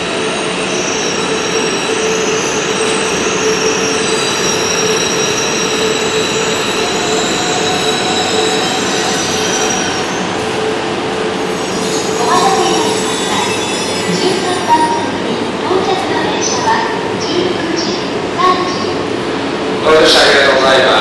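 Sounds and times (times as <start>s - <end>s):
whining tones from train wheels: 0.0s - 17.6s
train rolling noise: 0.0s - 21.0s.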